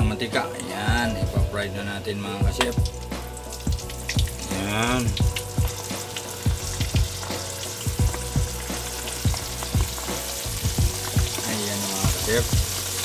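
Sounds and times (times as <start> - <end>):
deep-frying oil sizzling and popping: 2.4 - 13.0.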